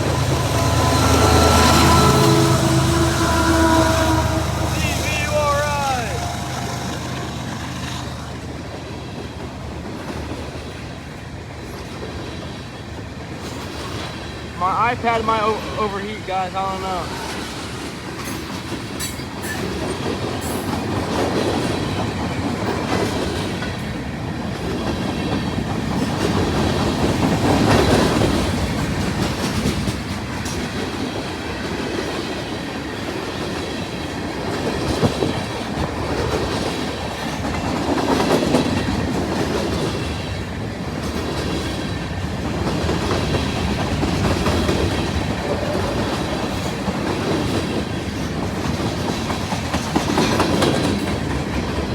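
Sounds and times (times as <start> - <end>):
train wheels clacking on rails: 0.0 - 15.8, 16.9 - 51.9.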